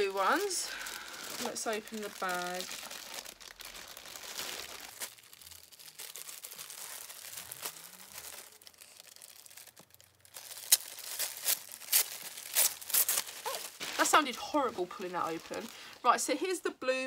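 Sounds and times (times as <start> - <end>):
plastic bag tearing: 0.0 - 16.1
plastic bag crinkling: 0.0 - 16.5.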